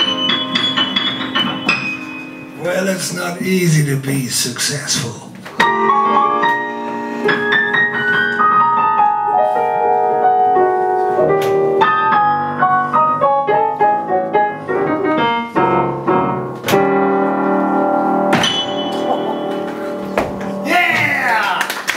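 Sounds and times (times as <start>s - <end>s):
solo jazz piano: 0.0s - 2.6s, 5.5s - 21.2s.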